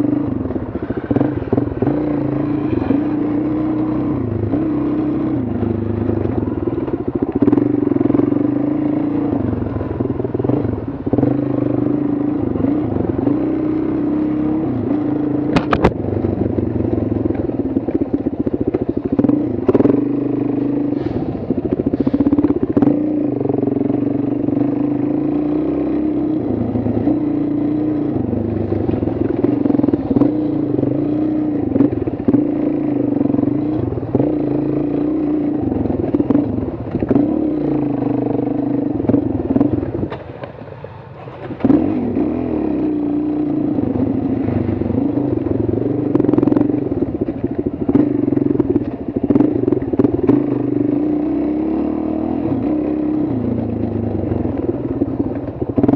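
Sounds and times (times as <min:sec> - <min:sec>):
motorcycle engine under throttle: 0:00.0 - 0:55.9.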